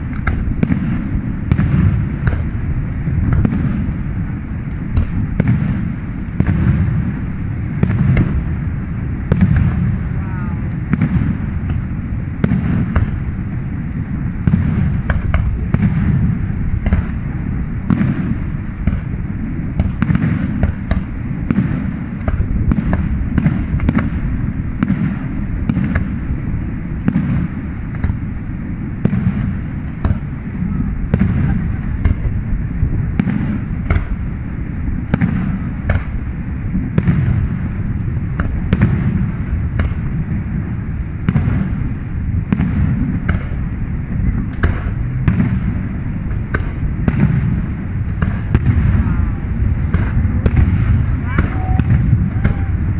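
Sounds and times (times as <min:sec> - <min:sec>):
continuous low rumble: 0:00.0 - 0:52.9
fireworks bangs and pops: 0:00.0 - 0:52.9.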